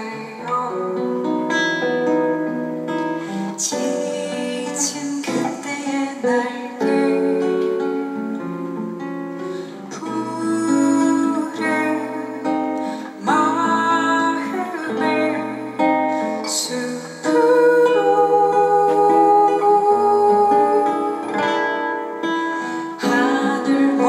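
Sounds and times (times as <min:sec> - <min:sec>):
strummed acoustic guitar: 0:00.0 - 0:24.0
woman singing: 0:00.0 - 0:24.0.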